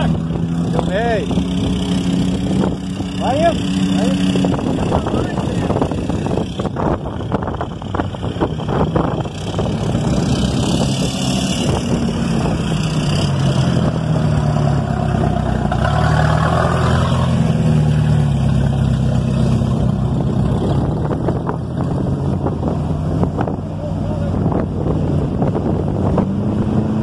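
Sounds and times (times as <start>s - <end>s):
jeep engine running: 0.0s - 27.0s.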